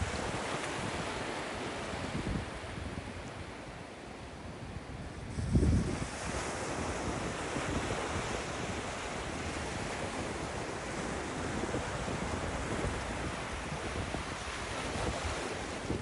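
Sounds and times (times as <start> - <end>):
ocean waves breaking on beach: 0.0 - 16.0
wind buffeting microphone: 0.0 - 16.0.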